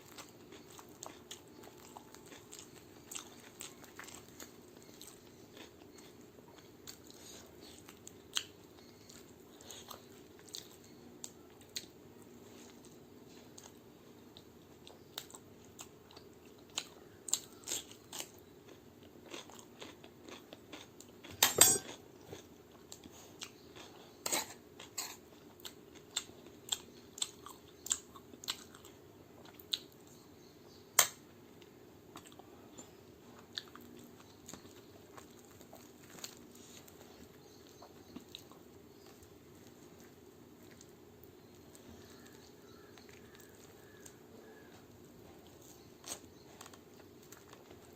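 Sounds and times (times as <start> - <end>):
faint steady hum: 0.0 - 47.9
person chewing crunchy food: 0.0 - 47.9.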